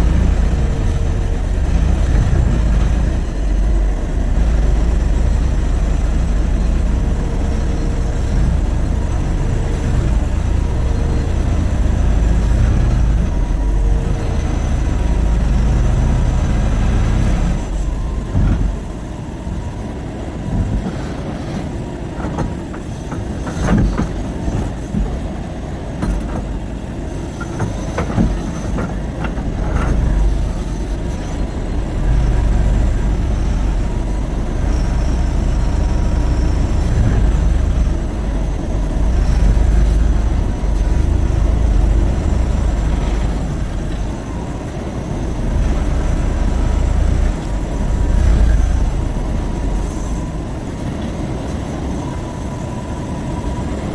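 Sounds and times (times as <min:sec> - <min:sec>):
excavator diesel engine rumble: 0:00.0 - 0:53.9.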